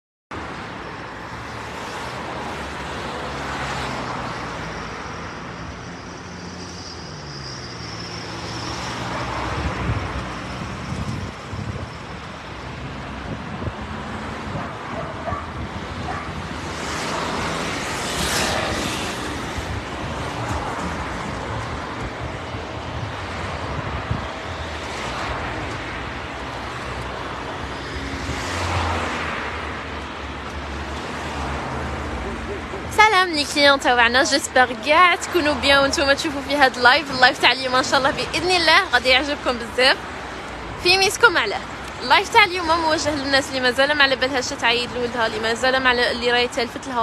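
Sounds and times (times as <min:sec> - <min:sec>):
road traffic hum: 0:00.3 - 0:47.0.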